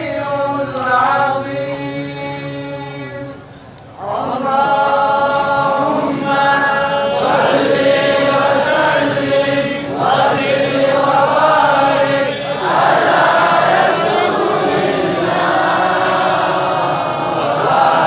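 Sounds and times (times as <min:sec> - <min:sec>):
young men reciting in unison: 0:00.0 - 0:18.0.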